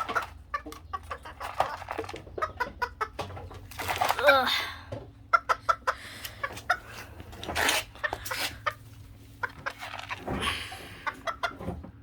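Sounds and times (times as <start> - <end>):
chickens clucking: 0.0 - 4.2, 4.8 - 12.0.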